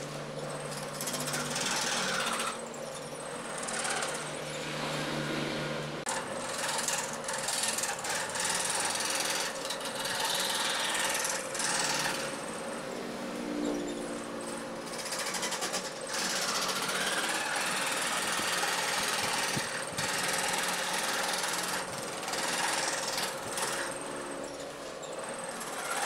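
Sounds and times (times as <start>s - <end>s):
scroll saw cutting plywood: 0.0s - 26.0s.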